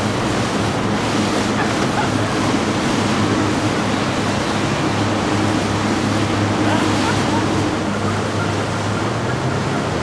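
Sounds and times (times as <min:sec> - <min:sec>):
boat engines droning: 0:00.0 - 0:10.0
water rushing from wake: 0:00.0 - 0:10.0.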